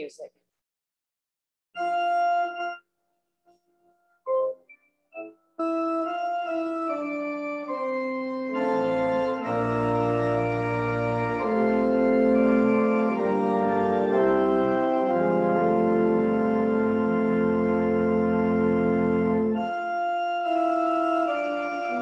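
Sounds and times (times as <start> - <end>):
church organ playing: 1.8 - 2.8, 4.3 - 22.0.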